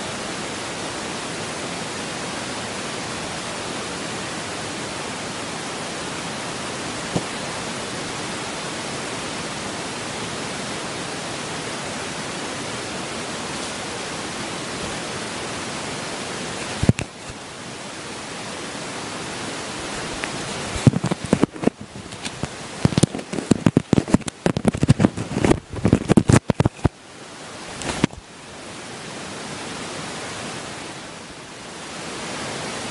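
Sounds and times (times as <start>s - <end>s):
loud broadband hiss: 0.0s - 32.9s.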